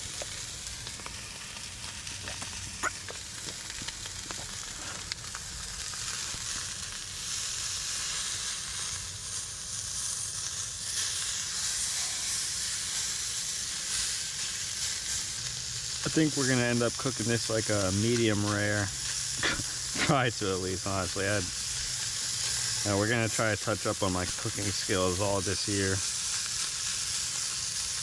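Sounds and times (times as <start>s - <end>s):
crackles and pops: 0.0s - 28.0s
steak sizzling in a pan: 0.0s - 28.0s.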